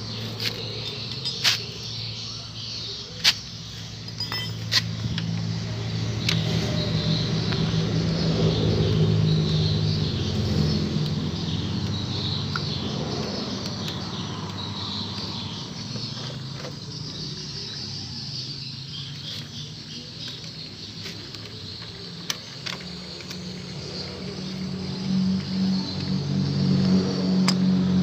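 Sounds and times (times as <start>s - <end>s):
high chirr of insects: 0.0s - 28.0s.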